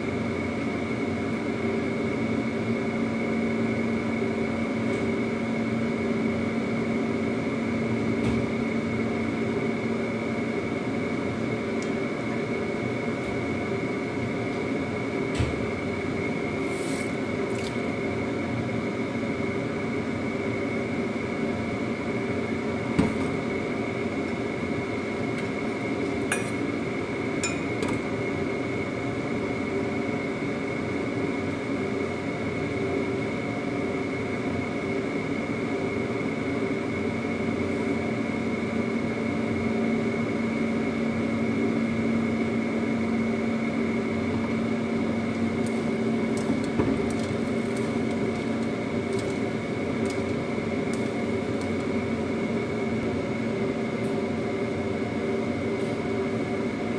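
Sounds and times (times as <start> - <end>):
appliance hum with high whine: 0.0 - 56.9.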